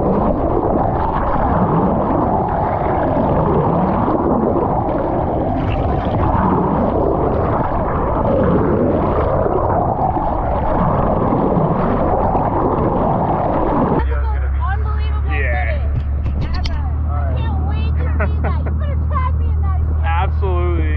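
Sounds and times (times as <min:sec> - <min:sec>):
underwater rush of water: 0:00.0 - 0:17.9, 0:19.8 - 0:20.9.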